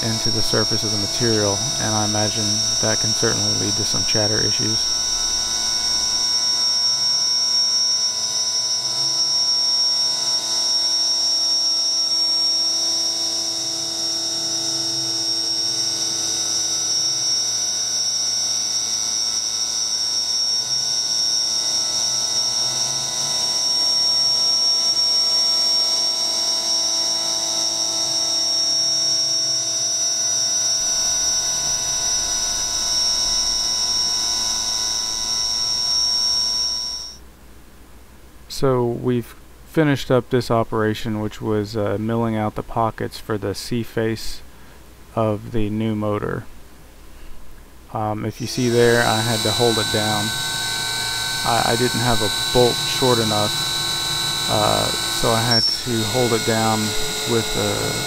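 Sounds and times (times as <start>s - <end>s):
mill spindle high-pitched whine: 0.0s - 37.4s, 47.3s - 58.0s.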